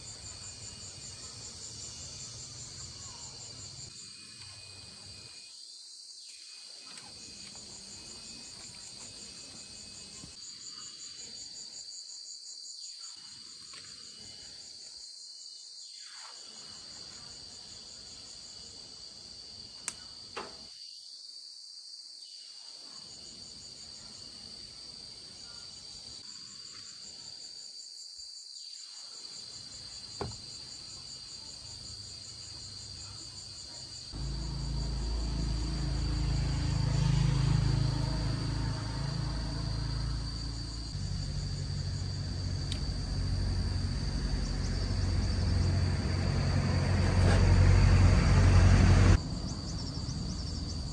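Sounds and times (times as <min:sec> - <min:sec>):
insects trilling: 0:00.0 - 0:21.2, 0:22.2 - 0:50.9.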